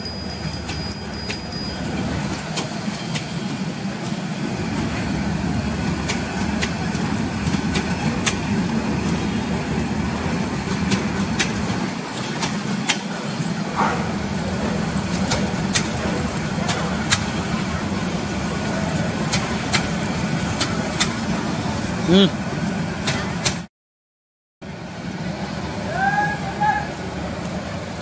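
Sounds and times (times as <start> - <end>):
rail clicks and clanks: 0.0 - 22.0, 22.6 - 23.7
train coaches rolling past: 0.0 - 23.7, 24.6 - 28.0.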